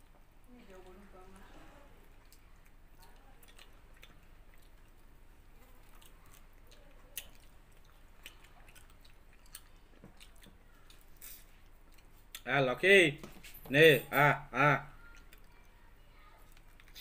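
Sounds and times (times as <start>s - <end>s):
people chewing with wet mouth clicks: 0.0s - 12.5s, 14.9s - 17.0s.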